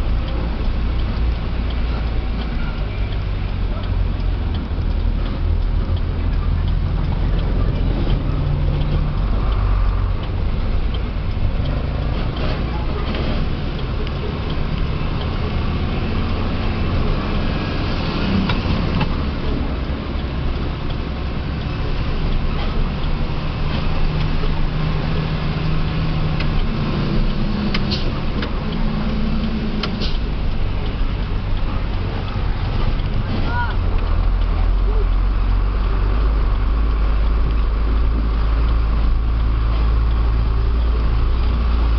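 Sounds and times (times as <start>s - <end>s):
truck engine rumbling: 0.0s - 41.9s.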